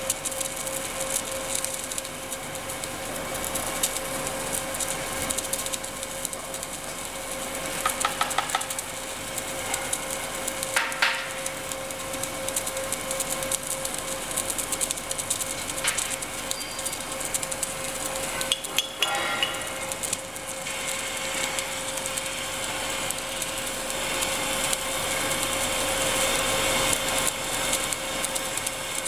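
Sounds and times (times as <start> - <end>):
machine hum: 0.0 - 29.0
welding arc crackling: 0.0 - 29.0.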